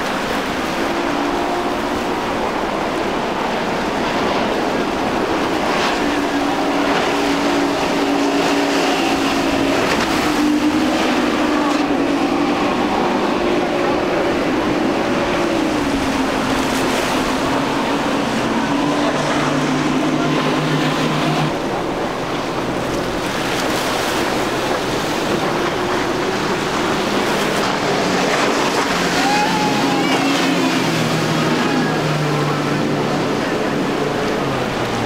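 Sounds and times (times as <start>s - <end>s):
outboard engines droning: 0.0s - 35.0s
rushing wake and choppy water: 0.0s - 35.0s.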